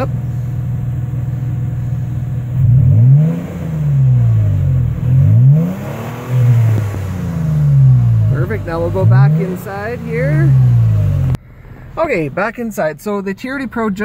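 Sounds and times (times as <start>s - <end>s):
engine idling and revving: 0.0s - 14.0s.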